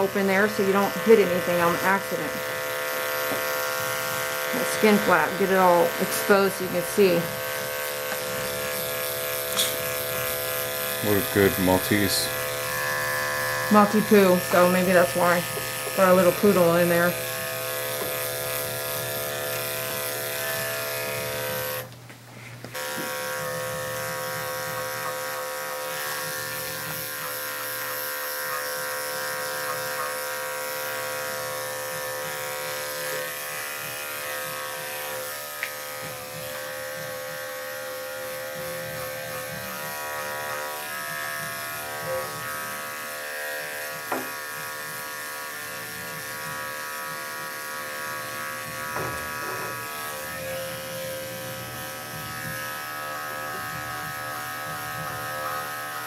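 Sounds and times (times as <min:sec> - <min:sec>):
electric clippers humming: 0:00.0 - 0:22.1, 0:22.7 - 0:56.0.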